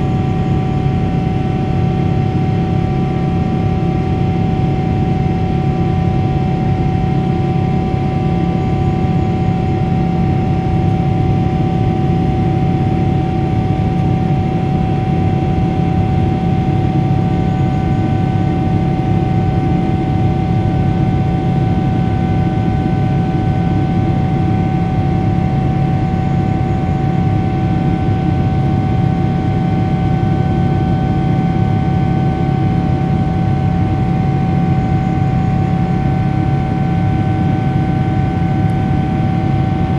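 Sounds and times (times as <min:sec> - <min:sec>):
jet engine drone in cabin: 0:00.0 - 0:39.9
steady engine whine: 0:00.0 - 0:39.9.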